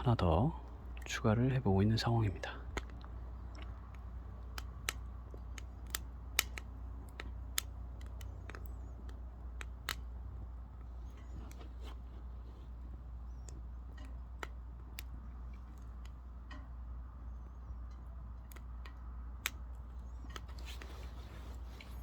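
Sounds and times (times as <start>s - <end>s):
firewood crackling in a stove: 0.0s - 22.0s.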